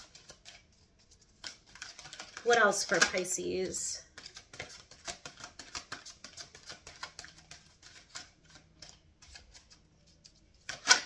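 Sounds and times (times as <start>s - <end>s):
cards being shuffled: 0.0s - 3.5s, 4.1s - 11.0s.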